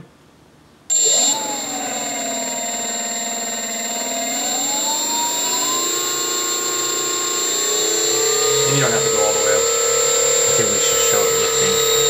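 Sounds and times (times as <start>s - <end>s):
electric motor whine: 0.9s - 12.0s
high-pitched tone: 0.9s - 12.0s.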